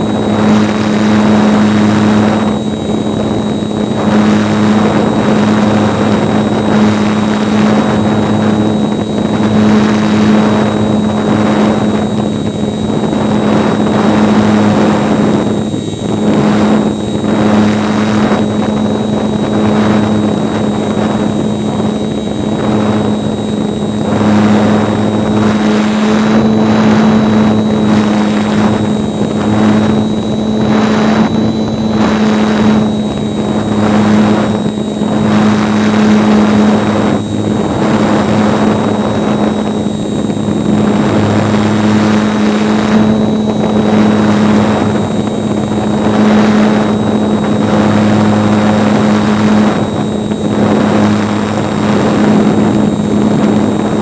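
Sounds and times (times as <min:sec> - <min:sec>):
model airplane motor droning: 0:00.0 - 0:54.0
thin high whine: 0:00.0 - 0:54.0
wind rushing over microphone: 0:00.0 - 0:54.0.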